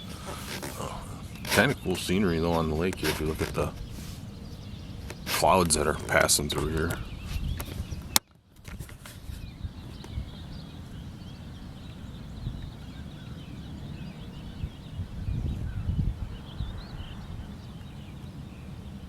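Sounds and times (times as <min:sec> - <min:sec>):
birds chirping: 0:00.0 - 0:19.0
wind rumbling on microphone: 0:00.0 - 0:19.0.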